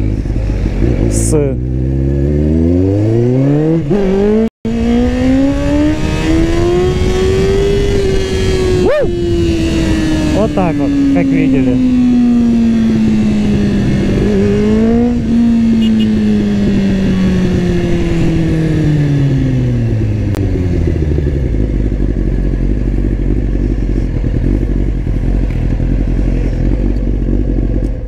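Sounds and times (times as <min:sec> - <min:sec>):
motorcycle engine revving down to idle: 0:00.0 - 0:28.0.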